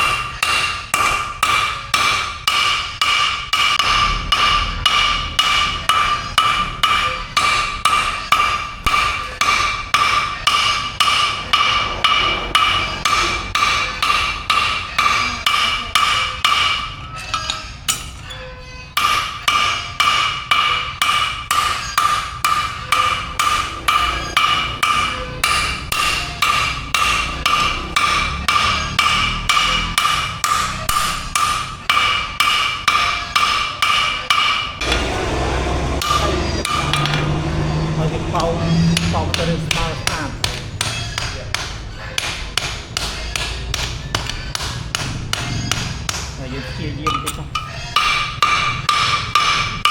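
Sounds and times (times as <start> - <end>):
hammer striking steel anvil: 0.0 - 49.9.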